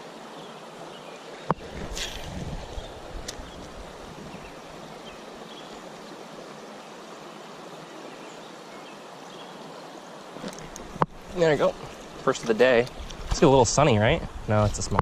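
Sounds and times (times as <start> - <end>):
water flowing over rocks: 0.0 - 15.0.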